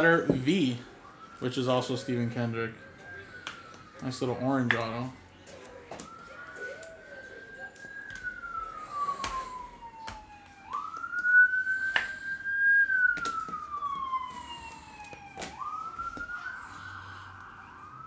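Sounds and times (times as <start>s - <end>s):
emergency siren wailing: 0.0s - 18.0s.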